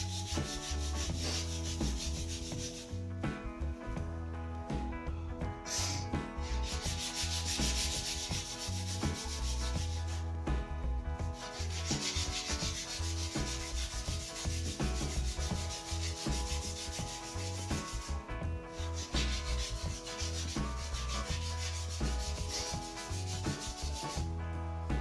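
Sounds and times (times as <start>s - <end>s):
sandpaper rubbing on wood: 0.0s - 2.9s, 5.7s - 10.3s, 11.4s - 24.2s.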